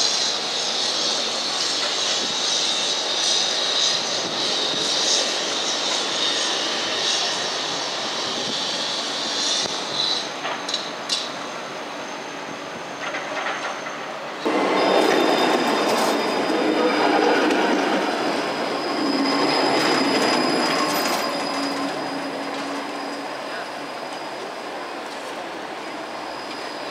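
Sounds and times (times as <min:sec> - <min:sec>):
tram wheels rumbling on rails: 0:00.0 - 0:26.9.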